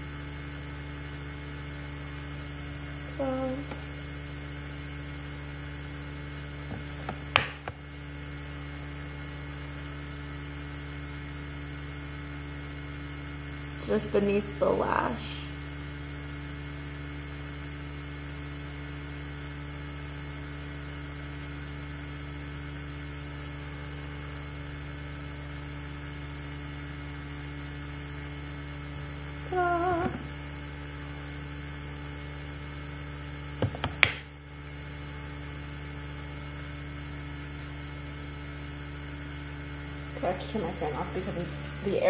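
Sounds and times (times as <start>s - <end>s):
electric fan hum: 0.0s - 42.0s.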